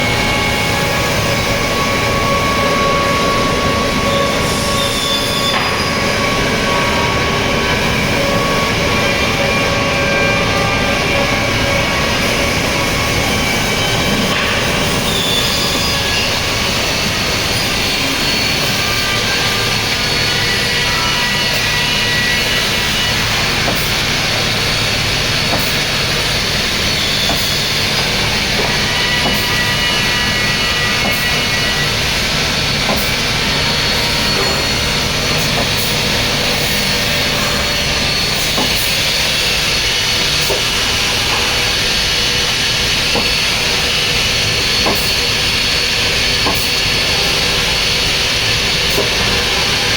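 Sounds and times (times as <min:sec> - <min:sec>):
boring machine running: 0:00.0 - 0:49.9.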